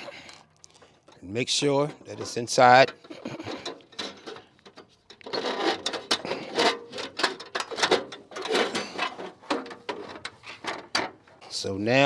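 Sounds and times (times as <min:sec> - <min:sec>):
metal parts clattering and rattling: 0:00.0 - 0:12.0.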